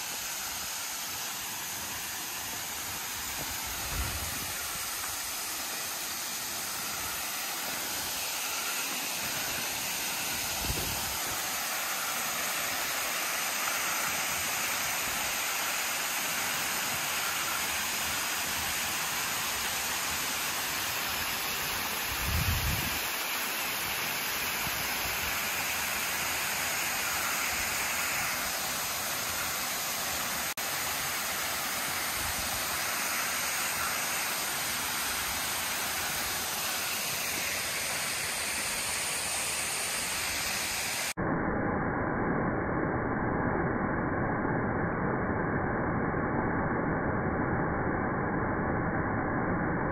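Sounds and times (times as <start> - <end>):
waterfall rushing: 0.0 - 41.2.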